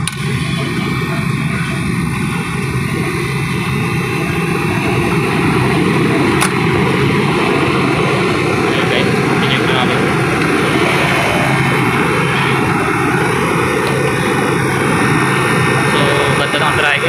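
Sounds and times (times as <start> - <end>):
compressor and fan humming: 0.0 - 17.0.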